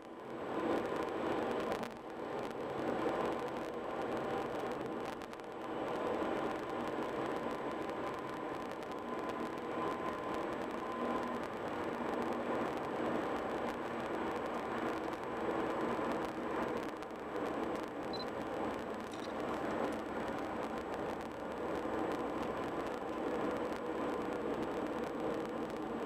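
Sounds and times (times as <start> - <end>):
car road and engine noise: 0.0 - 26.0.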